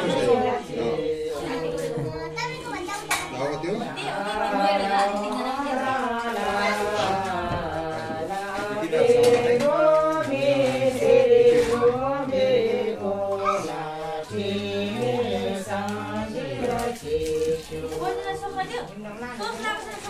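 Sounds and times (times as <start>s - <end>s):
slow chant-like singing: 0.0s - 19.4s.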